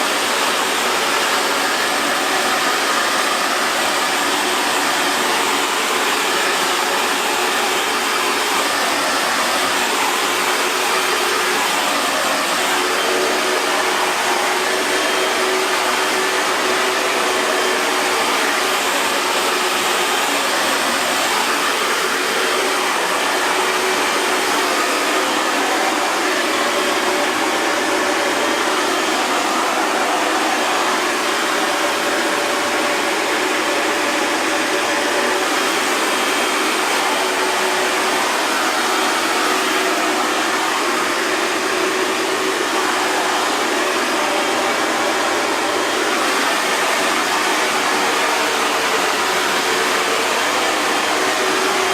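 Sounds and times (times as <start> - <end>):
hair dryer blowing: 0.0 - 51.9.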